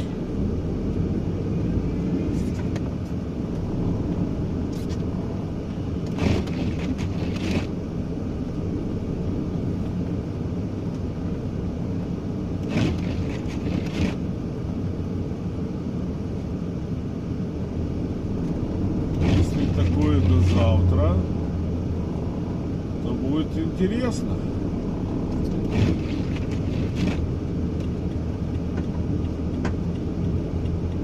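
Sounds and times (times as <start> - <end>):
vehicle rumble on snowy road: 0.0 - 31.0.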